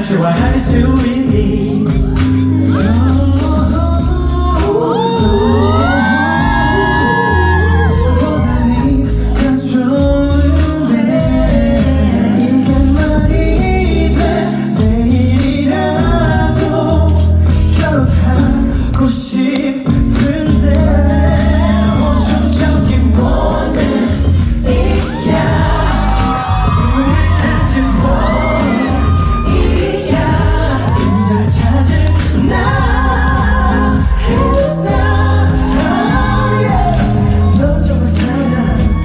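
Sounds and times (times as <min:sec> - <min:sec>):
live pop band with singing: 0:00.0 - 0:39.0.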